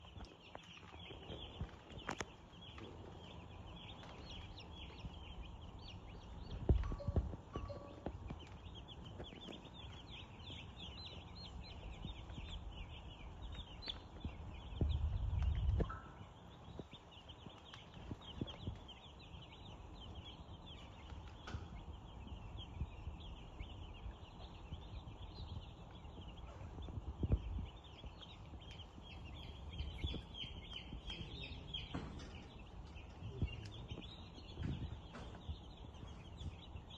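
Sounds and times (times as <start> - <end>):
chickens calling: 0.0 - 36.9.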